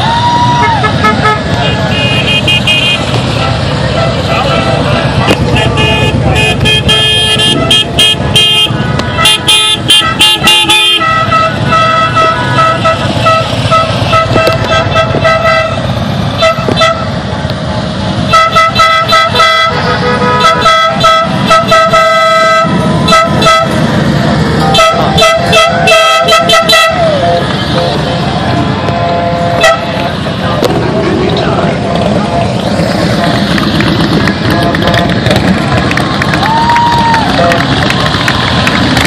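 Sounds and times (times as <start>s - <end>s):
motorcycle engines rumbling: 0.0s - 39.0s
horns honking: 0.1s - 17.4s, 18.0s - 39.0s.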